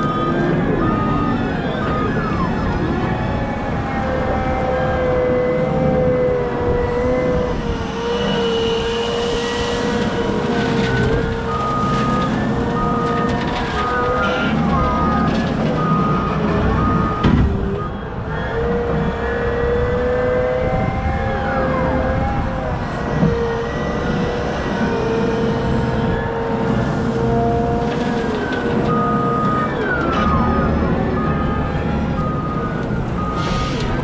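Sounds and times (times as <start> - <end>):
reversing alarm beeping: 0.0 - 34.0
wheel loader engine whining: 0.0 - 34.0.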